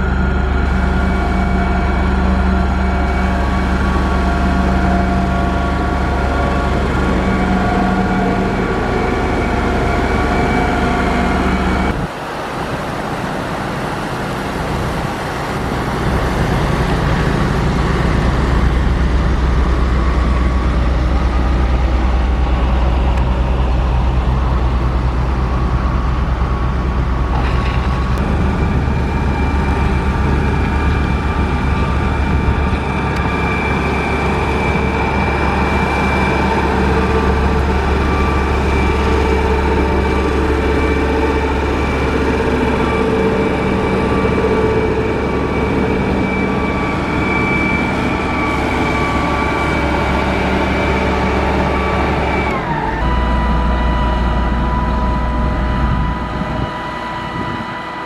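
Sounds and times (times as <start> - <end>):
diesel engine of heavy machinery: 0.0 - 58.0.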